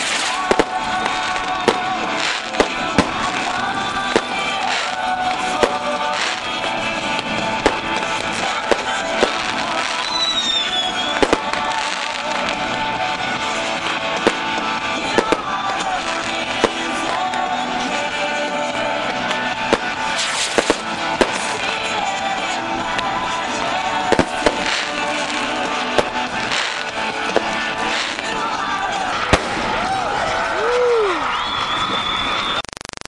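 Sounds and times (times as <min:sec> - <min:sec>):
background music: 0:00.0 - 0:32.5
fireworks bangs: 0:00.0 - 0:32.7.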